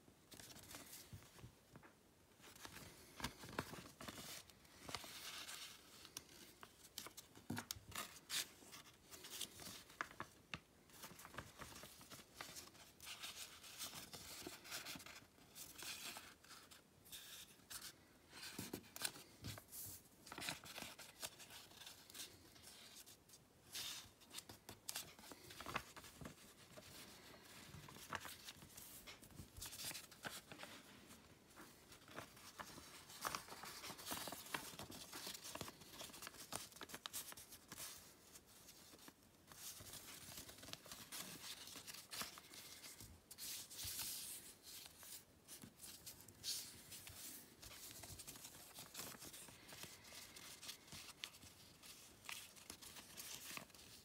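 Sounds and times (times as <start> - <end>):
paper rustling and crinkling: 0.3 - 54.0
paper crackles: 2.4 - 54.0.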